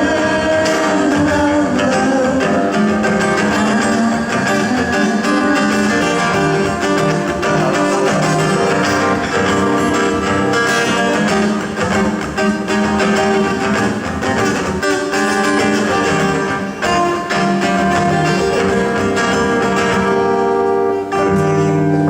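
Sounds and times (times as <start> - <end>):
instrumental band music with guitar: 0.0 - 22.0.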